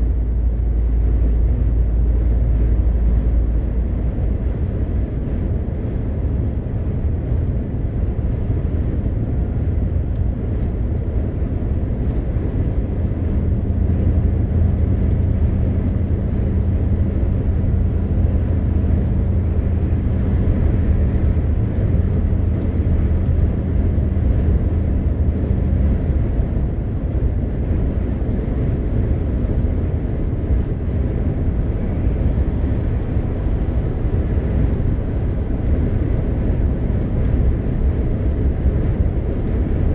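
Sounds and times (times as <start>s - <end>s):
diesel truck engine drone: 0.0s - 39.9s
low engine hum: 0.0s - 39.9s.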